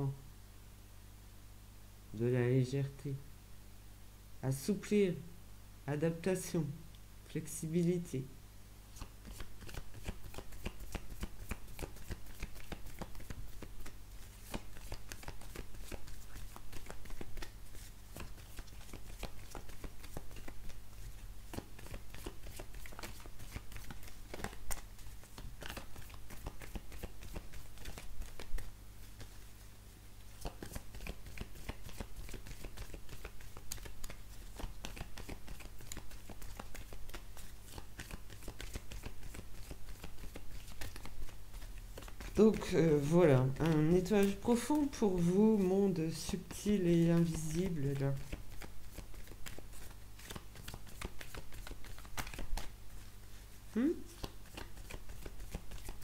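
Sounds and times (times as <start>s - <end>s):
cards being shuffled: 8.9s - 29.4s, 30.2s - 56.0s.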